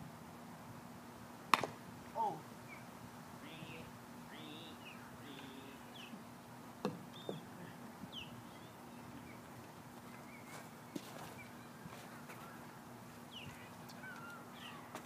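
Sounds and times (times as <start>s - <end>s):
low steady hum: 0.0s - 15.0s
birds chirping faintly: 2.1s - 15.0s.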